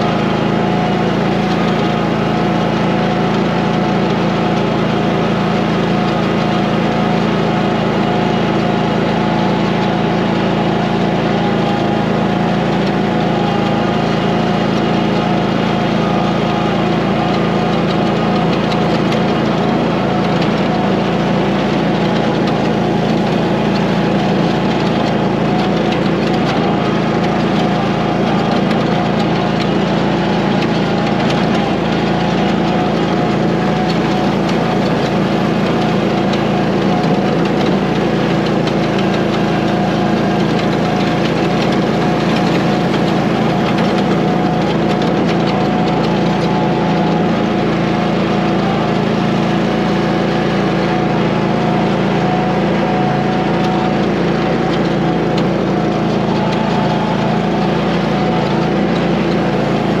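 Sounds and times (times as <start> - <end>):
tractor engine running: 0.0 - 60.0.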